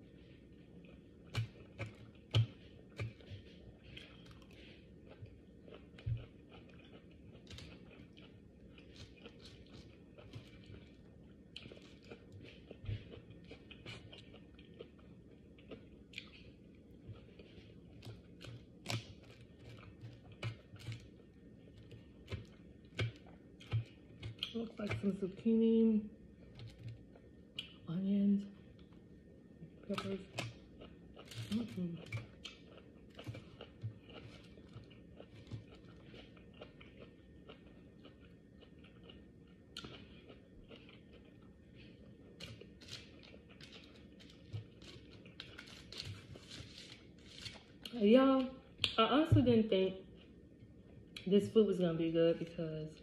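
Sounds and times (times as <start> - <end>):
person chewing and crunching: 0.0 - 25.1, 26.2 - 27.9, 29.6 - 48.0
faint low hum: 0.0 - 53.0.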